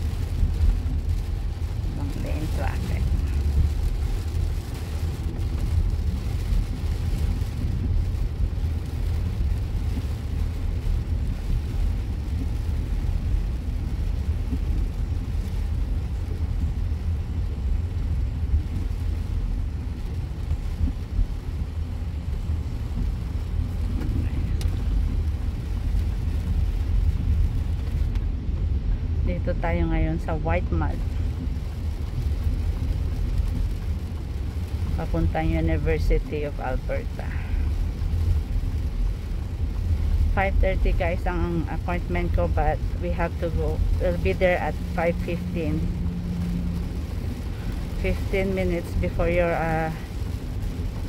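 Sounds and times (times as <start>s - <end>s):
road and engine rumble: 0.0s - 51.0s.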